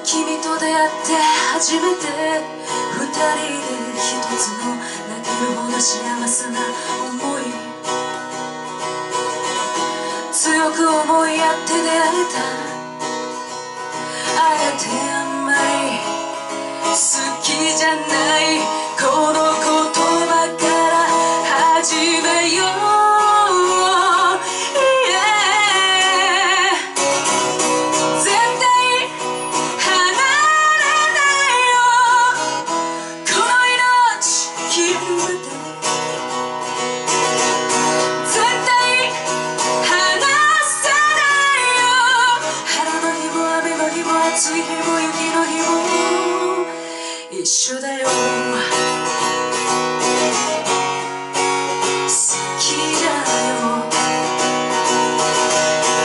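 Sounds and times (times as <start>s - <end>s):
person singing with vibrato: 0.0s - 56.0s
strummed acoustic guitar: 0.0s - 56.0s.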